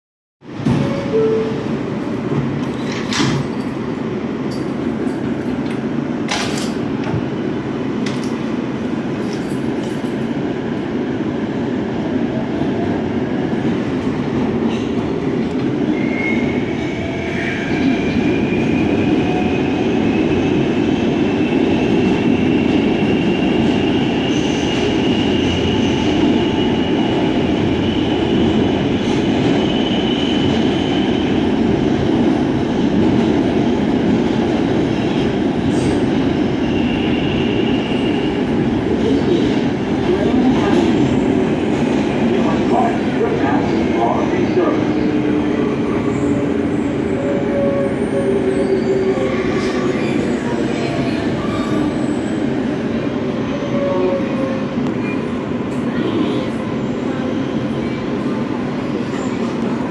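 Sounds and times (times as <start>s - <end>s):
subway wheels rumbling on rail: 0.4s - 59.9s.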